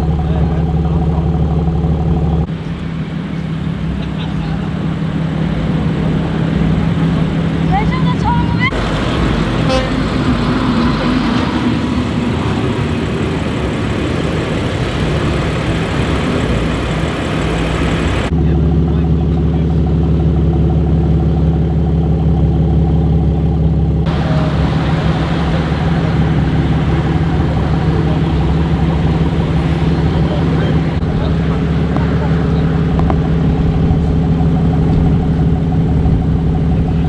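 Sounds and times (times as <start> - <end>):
car engine and road noise: 0.0 - 37.0
car engine idling: 0.0 - 37.0.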